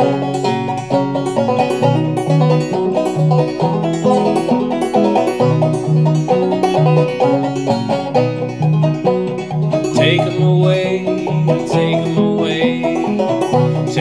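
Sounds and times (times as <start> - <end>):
acoustic guitar bass rhythm: 0.0 - 14.0
clawhammer banjo melody: 0.0 - 14.0.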